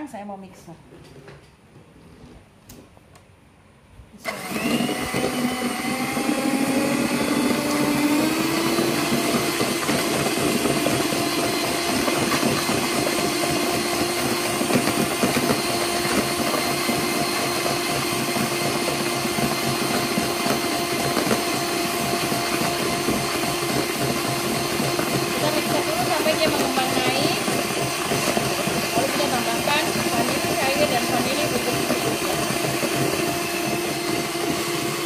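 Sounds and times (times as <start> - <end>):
electric hand mixer whine: 4.2 - 35.0.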